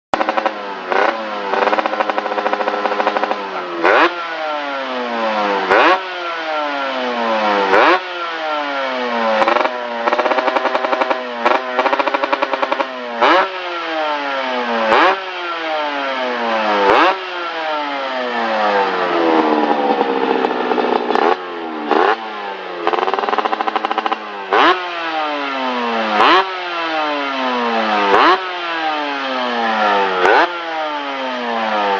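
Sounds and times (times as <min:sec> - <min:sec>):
motorcycle engine revving: 0:00.1 - 0:31.9.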